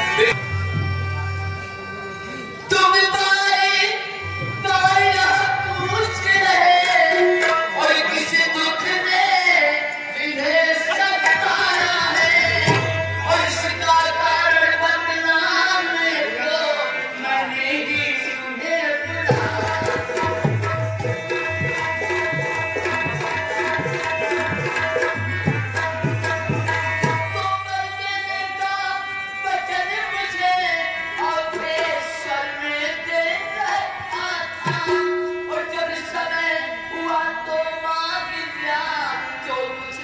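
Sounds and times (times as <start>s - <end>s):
tabla playing: 0.0s - 16.7s, 17.3s - 40.0s.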